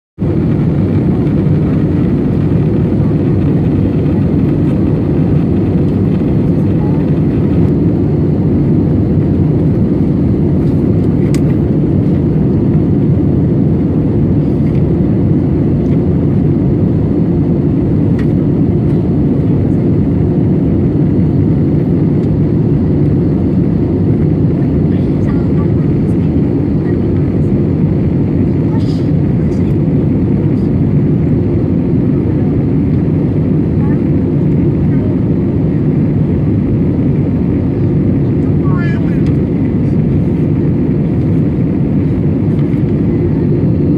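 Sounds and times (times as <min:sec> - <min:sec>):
airplane cabin engine rumble: 0:00.2 - 0:43.9.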